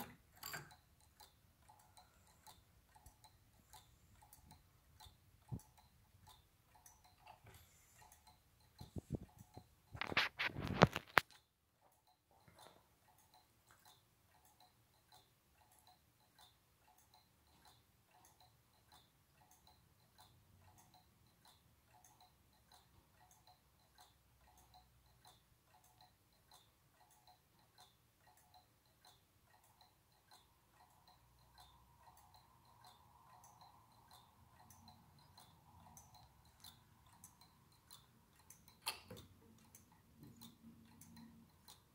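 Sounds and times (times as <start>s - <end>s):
pendulum clock ticking: 0.0s - 41.9s.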